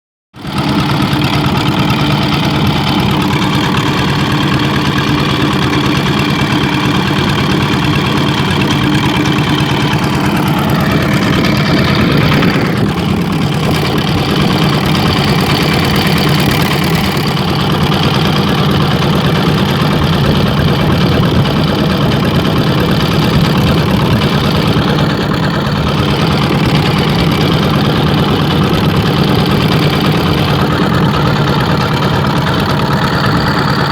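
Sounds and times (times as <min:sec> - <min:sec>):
ship engine droning: 0:00.4 - 0:33.9.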